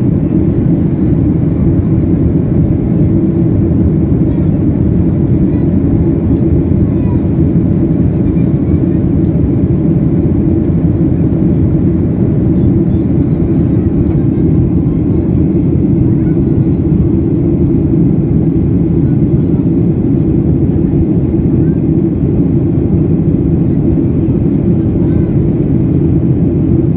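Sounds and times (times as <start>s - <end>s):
airplane cabin rumble in flight: 0.0s - 26.9s.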